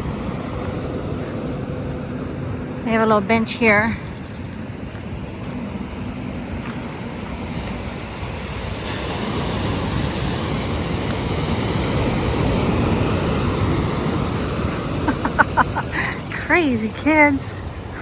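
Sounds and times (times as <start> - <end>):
ocean surf washing onto beach: 0.0 - 2.7, 4.8 - 18.0.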